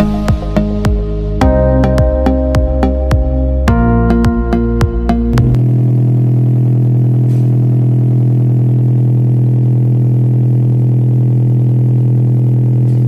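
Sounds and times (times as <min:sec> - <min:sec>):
loud buzzy low subwoofer tone: 0:00.0 - 0:13.0.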